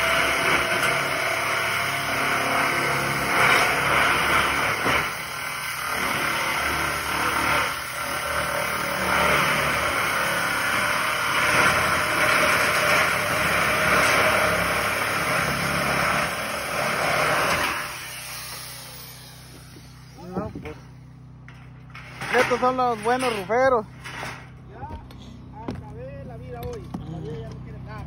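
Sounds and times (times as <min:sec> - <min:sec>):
power tool cutting metal panel: 0:00.0 - 0:24.5.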